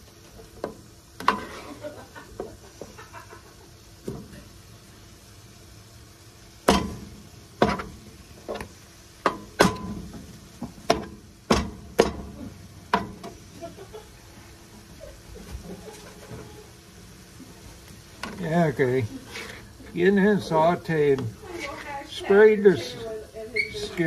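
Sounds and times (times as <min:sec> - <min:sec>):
food sizzling on griddle: 0:00.0 - 0:24.0.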